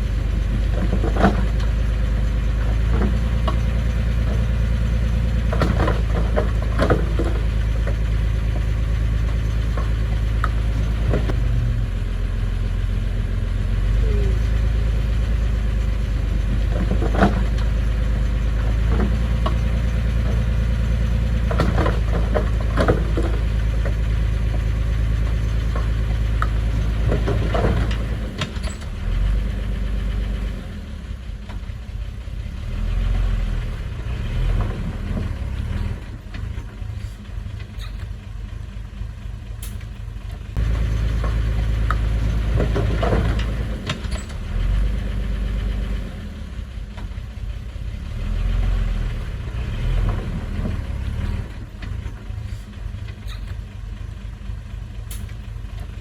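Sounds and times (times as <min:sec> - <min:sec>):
diesel engine working under load: 0:00.0 - 0:56.0.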